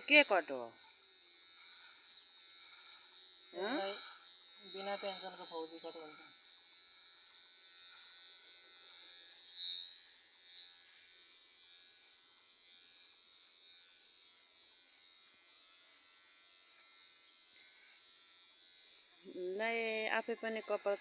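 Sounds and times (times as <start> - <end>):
electric hair clipper buzzing: 0.0 - 21.0.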